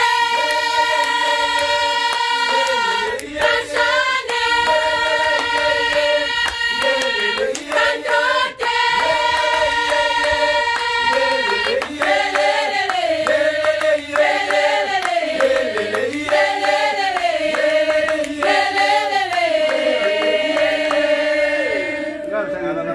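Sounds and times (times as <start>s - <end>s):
hand claps: 0.0s - 21.4s
choir singing a cappella: 0.0s - 22.9s.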